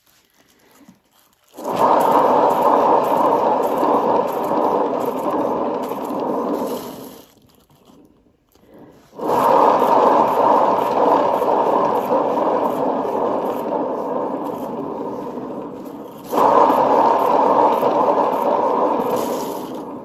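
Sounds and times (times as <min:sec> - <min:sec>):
turntable rumbling: 0:01.6 - 0:07.2, 0:09.2 - 0:20.0.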